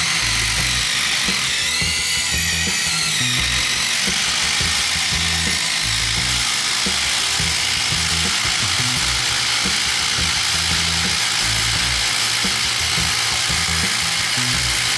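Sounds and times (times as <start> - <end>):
music: 0.0 - 14.9.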